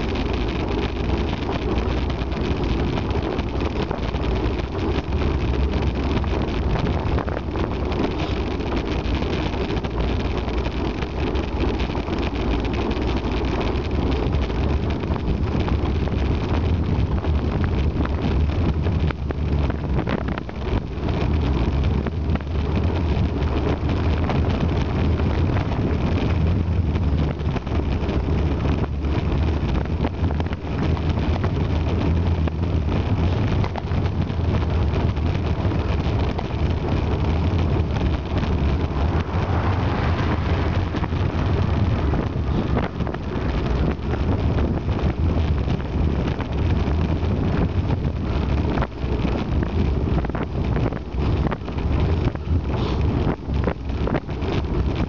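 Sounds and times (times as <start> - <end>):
bicycle road noise on tarmac: 0.0 - 55.0
wind buffeting microphone: 0.0 - 55.0.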